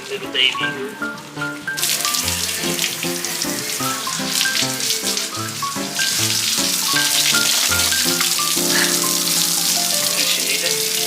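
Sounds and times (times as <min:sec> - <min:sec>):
background music: 0:00.0 - 0:11.0
shower water spraying: 0:01.1 - 0:11.0.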